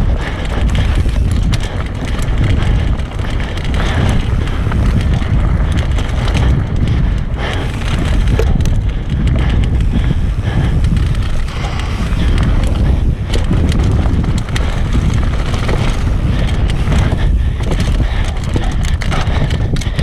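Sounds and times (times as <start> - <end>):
bike clacking and rattling: 0.0 - 20.0
tyres rumbling on dirt: 0.0 - 20.0
wind on microphone: 0.0 - 20.0.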